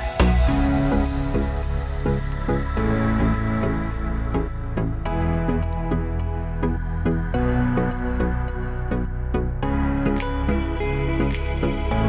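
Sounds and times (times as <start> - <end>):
gentle background music: 0.0 - 12.0.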